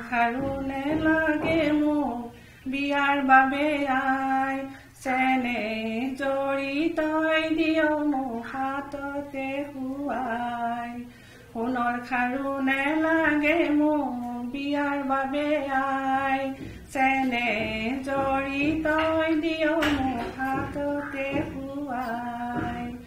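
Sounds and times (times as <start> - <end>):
woman singing solo: 0.0 - 23.0.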